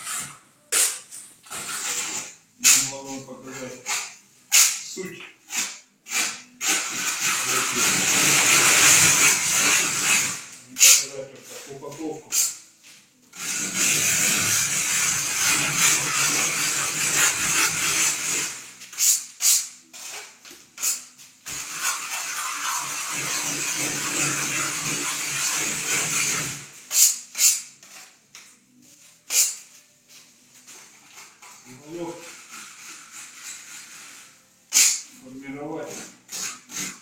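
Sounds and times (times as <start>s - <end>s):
trowel scraping plaster: 0.0s - 11.6s, 13.3s - 30.0s, 30.6s - 37.0s.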